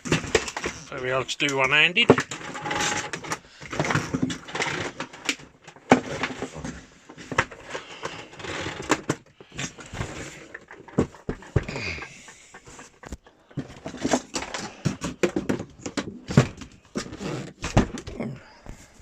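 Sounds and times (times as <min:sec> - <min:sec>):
plastic parts clicking and rattling: 0:00.0 - 0:18.2.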